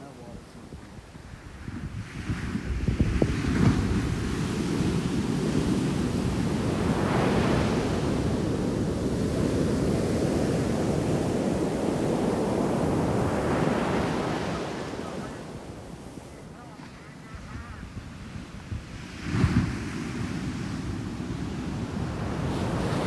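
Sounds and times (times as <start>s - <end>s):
surf crashing on beach: 2.0s - 23.0s.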